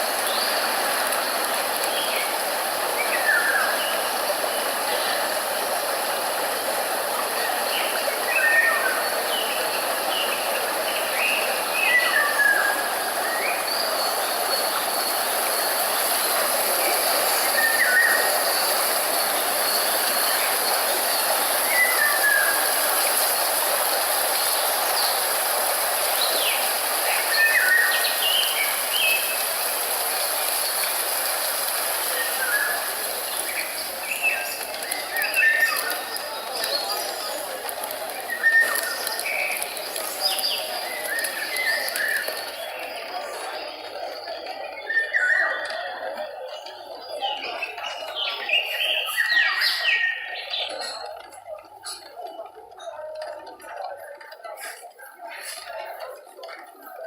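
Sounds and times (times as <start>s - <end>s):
white-noise hiss: 0.0s - 45.8s.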